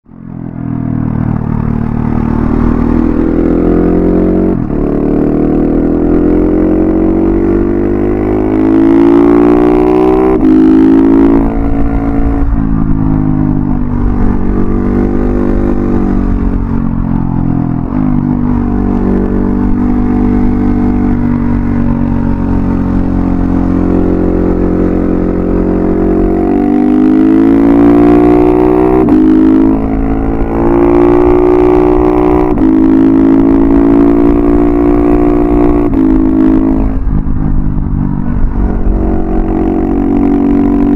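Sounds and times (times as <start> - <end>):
motorcycle engine revving: 0.3 - 40.9.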